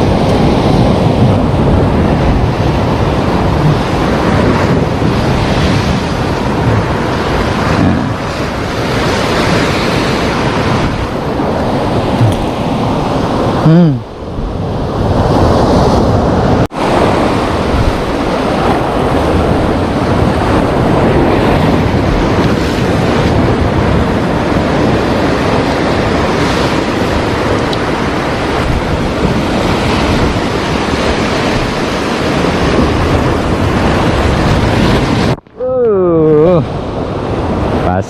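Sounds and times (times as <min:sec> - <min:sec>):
surf breaking on shore: 0:00.0 - 0:38.0
wind buffeting microphone: 0:00.0 - 0:38.0.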